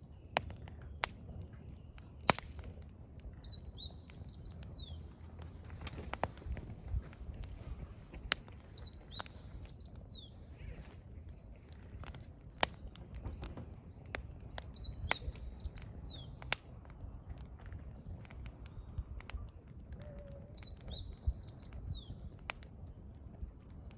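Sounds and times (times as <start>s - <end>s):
songbird chirping: 0.0s - 7.2s, 8.2s - 16.6s, 17.4s - 22.5s
firewood crackling and popping: 0.0s - 23.9s.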